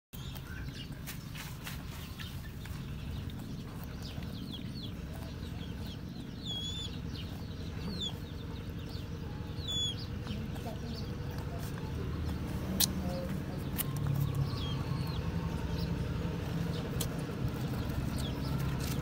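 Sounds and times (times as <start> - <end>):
steady low rumble: 0.2 - 19.0.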